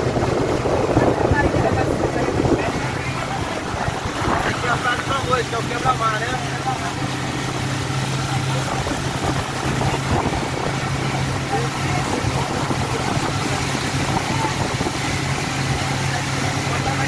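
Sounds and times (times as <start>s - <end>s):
boat engine humming: 0.0s - 17.0s
water rushing from wake: 0.0s - 17.0s.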